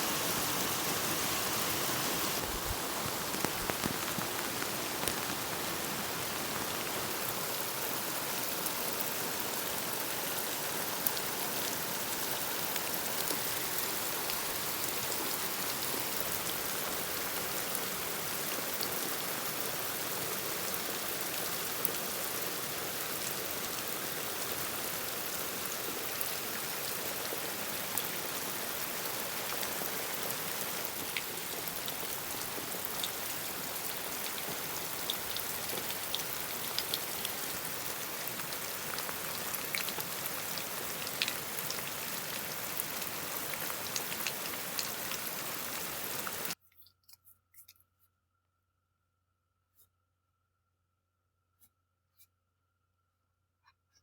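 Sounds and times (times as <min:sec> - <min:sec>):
steady rain: 0:00.0 - 0:46.6.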